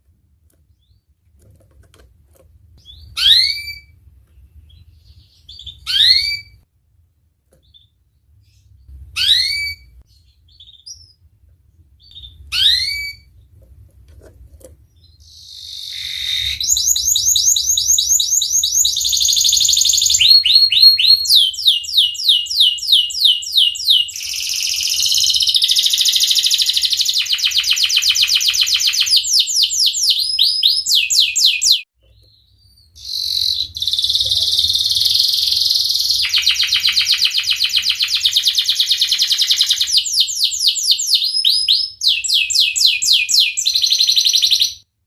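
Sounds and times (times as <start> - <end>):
canary singing rolling trills: 2.8 - 6.6, 7.6 - 13.8, 14.8 - 44.8.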